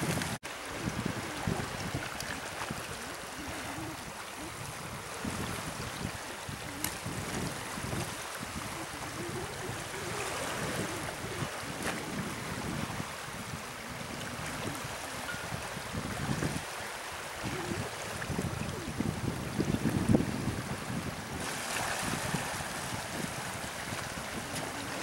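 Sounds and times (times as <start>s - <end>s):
turbulent water rushing: 0.0s - 25.0s
wind buffeting microphone: 0.0s - 25.0s.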